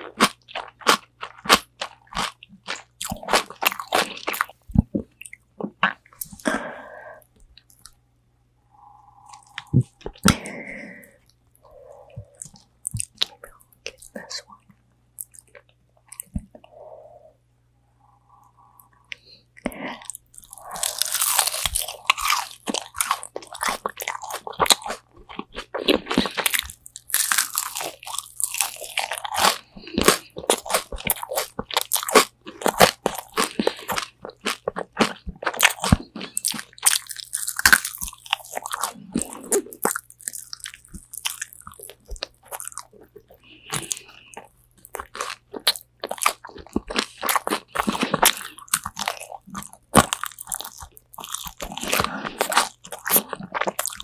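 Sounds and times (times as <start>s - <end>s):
crunching bites and chewing: 0.0s - 6.5s, 12.1s - 14.5s, 19.1s - 54.0s.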